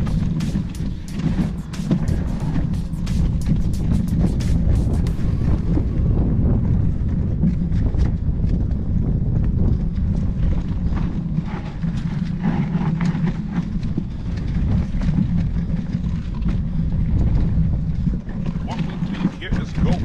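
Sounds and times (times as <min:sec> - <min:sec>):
bike clacks and rattles: 0:00.0 - 0:05.9, 0:06.6 - 0:20.0
mountain bike rumbling on dirt: 0:00.0 - 0:20.0.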